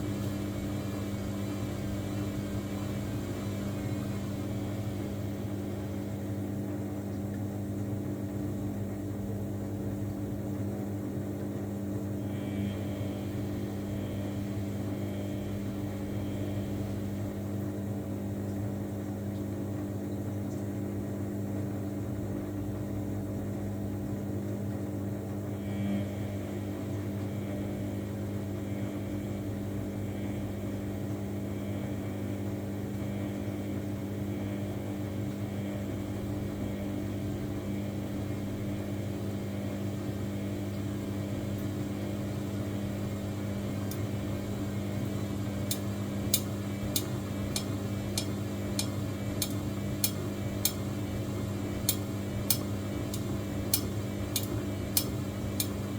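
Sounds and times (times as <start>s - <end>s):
washing machine humming: 0.0s - 55.9s.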